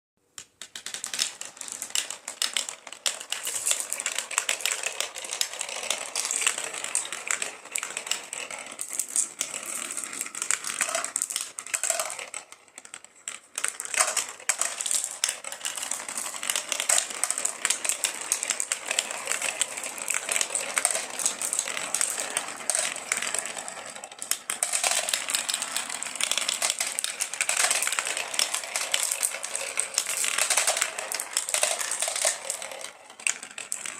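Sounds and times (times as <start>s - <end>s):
marbles rolling and clattering: 0.3s - 33.9s.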